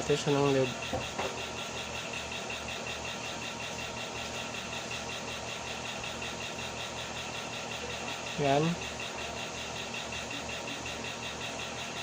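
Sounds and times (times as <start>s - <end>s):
mechanical hum with flutter: 0.0s - 12.0s.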